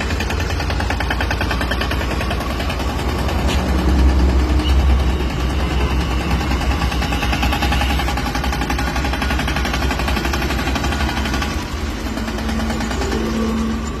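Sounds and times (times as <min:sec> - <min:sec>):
tractor engine chugging: 0:00.0 - 0:14.0.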